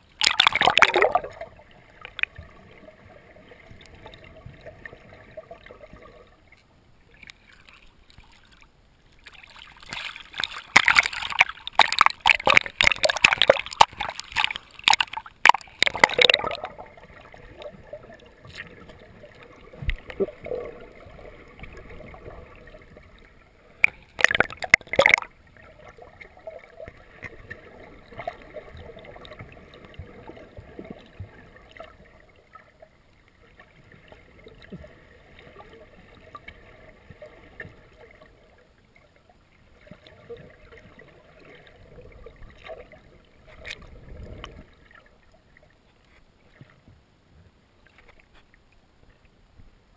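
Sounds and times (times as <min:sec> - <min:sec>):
water splashing and gurgling: 0:00.0 - 0:47.0.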